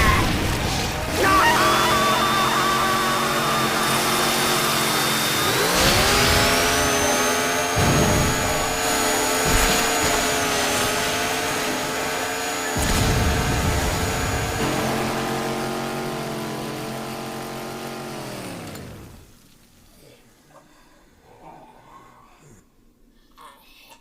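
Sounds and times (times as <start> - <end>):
chainsaw engine revving: 0.0 - 19.4.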